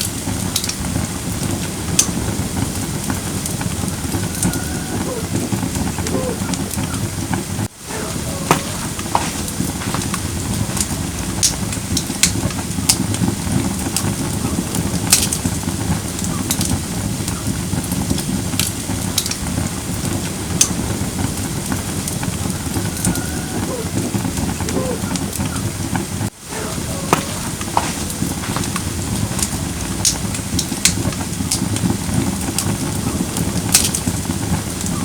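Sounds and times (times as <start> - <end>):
fire crackles and pops: 0.0 - 35.0
firewood hissing: 0.0 - 35.0.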